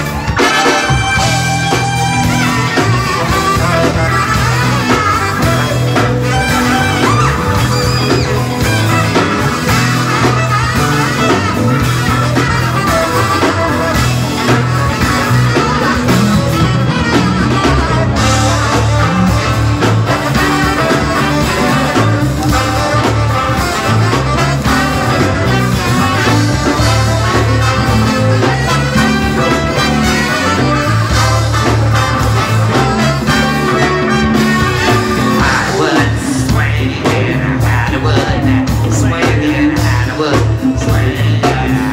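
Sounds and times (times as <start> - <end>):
electric guitar: 0.0 - 41.9
live funk band playing: 0.0 - 41.9
saxophone: 0.0 - 41.9
strong steady bass line: 0.0 - 41.9.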